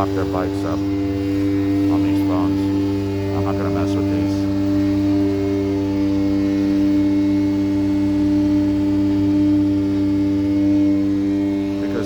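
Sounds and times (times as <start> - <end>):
work vehicle engine droning: 0.0 - 12.0.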